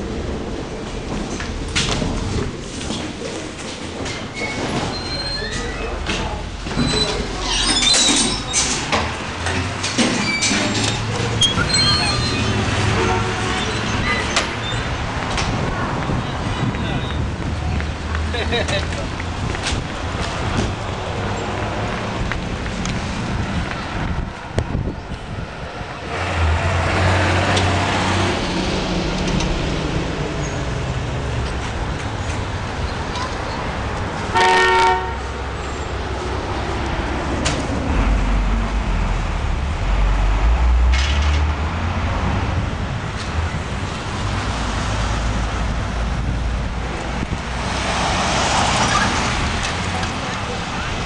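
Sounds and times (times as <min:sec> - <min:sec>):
subway train rumbling: 0:00.0 - 0:51.0.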